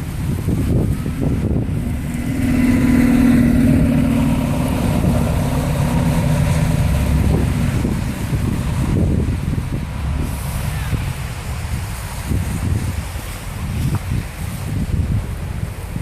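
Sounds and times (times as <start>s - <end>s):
vehicle engine humming: 0.0s - 15.9s.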